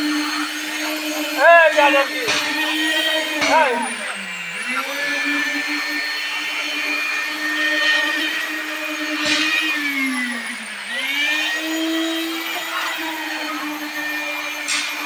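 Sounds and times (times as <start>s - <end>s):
vibrator motor whining: 0.0s - 15.0s.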